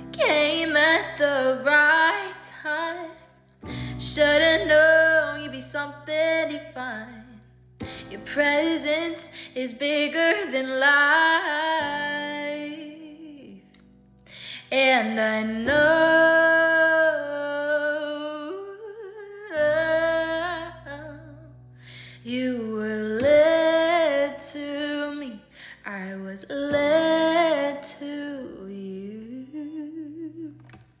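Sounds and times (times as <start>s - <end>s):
woman singing wordless notes: 0.0s - 13.7s, 14.6s - 21.5s, 22.2s - 30.7s.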